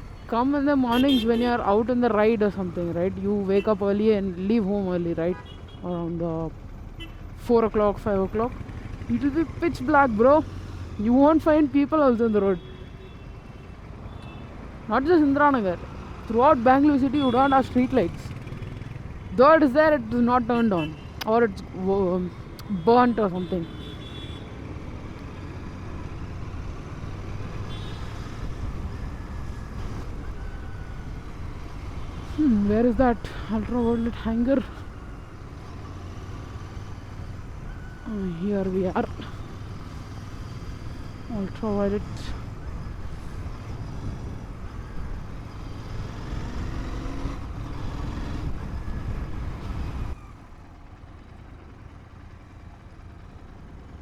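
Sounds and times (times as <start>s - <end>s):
motorcycle engine and road noise: 0.0s - 54.0s.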